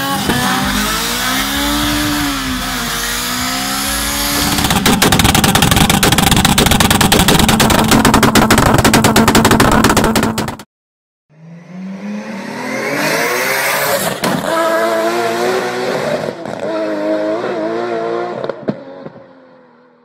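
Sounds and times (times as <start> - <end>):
car engine revving: 0.0 - 10.6, 11.3 - 19.2.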